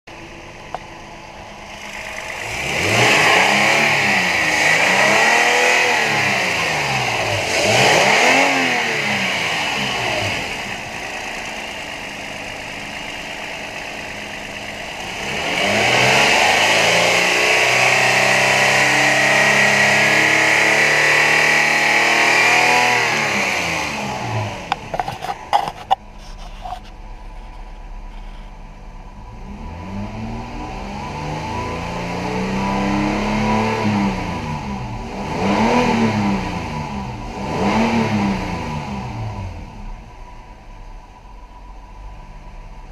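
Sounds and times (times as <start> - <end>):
engine revving and idling: 0.1 - 42.9.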